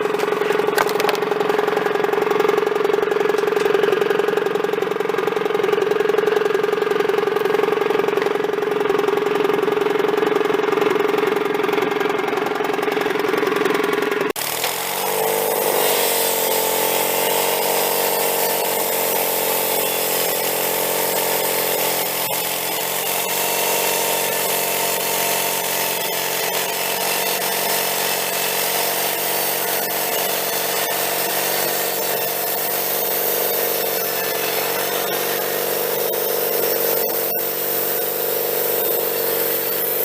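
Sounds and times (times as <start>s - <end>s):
sawmill blade cutting log: 0.0s - 40.0s.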